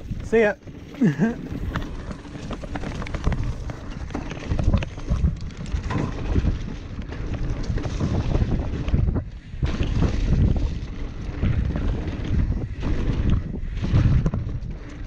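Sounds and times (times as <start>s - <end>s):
bike clicking and rattling: 0.0s - 15.0s
bike tyres rumbling on dirt: 0.0s - 15.0s.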